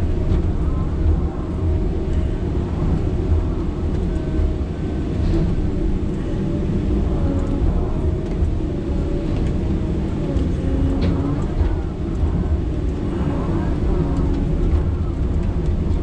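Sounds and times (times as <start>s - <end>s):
diesel engine and hydraulics droning: 0.0s - 16.0s.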